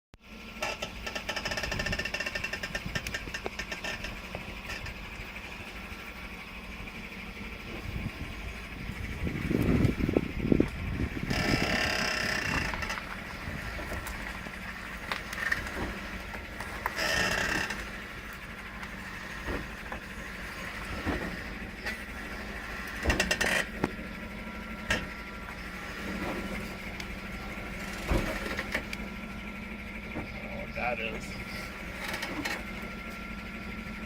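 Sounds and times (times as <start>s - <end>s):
engine and road noise drone: 0.2s - 34.0s
truck creaks and clicks: 0.4s - 30.5s, 31.4s - 34.0s.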